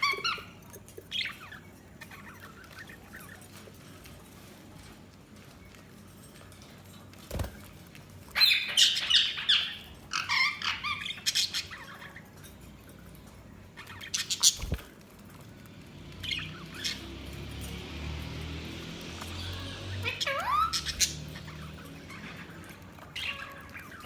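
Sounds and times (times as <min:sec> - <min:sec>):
budgerigars chirping and squawking: 0:00.0 - 0:05.5, 0:07.3 - 0:15.0, 0:15.7 - 0:24.0.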